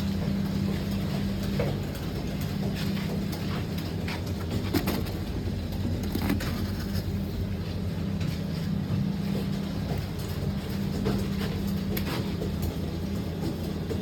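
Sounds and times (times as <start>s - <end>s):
factory machinery humming: 0.0s - 14.0s.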